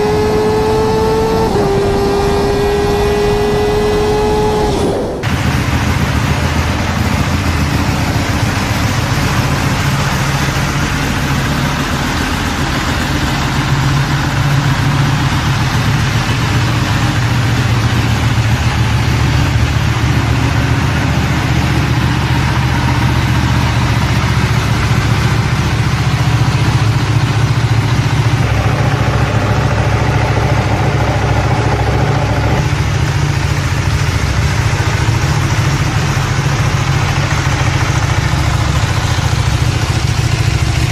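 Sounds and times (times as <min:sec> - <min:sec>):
motorcycle engine idling: 0:05.2 - 0:40.9.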